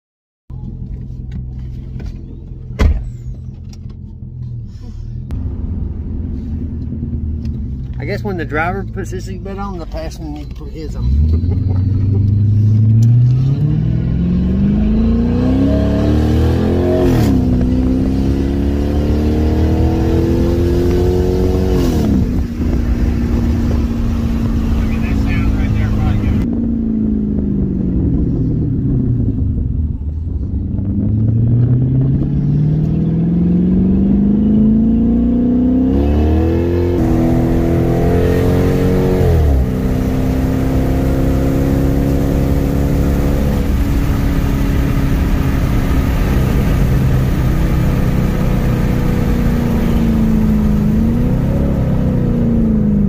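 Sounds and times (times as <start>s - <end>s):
car engine while driving: 0.5s - 53.0s.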